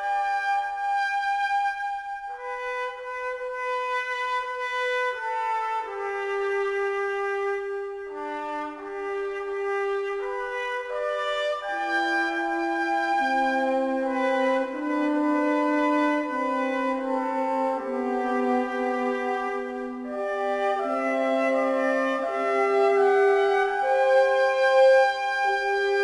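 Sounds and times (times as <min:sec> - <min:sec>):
slow instrumental music: 0:00.0 - 0:26.0.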